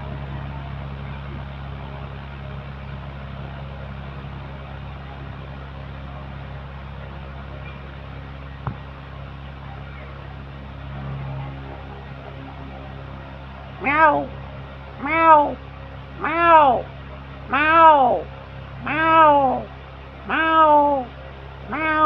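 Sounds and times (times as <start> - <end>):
mechanical hum with low throb: 0.0 - 22.0.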